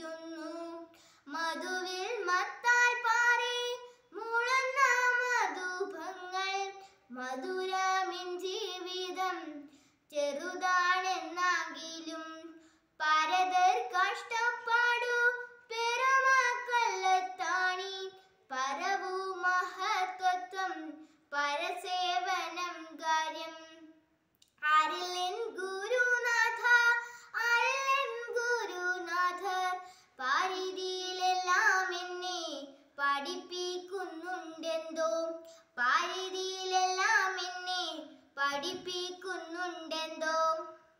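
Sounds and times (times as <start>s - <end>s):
girl singing unaccompanied: 0.0s - 40.9s.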